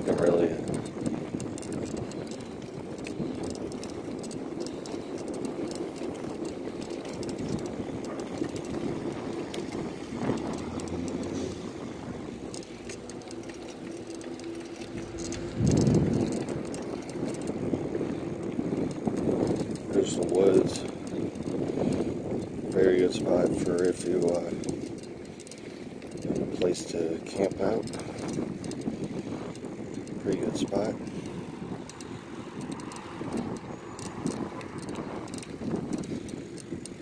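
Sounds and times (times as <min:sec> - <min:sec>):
bicycle rattling clicks: 0:00.0 - 0:37.0
bicycle tyres on asphalt: 0:00.0 - 0:37.0
wind on microphone: 0:00.0 - 0:37.0.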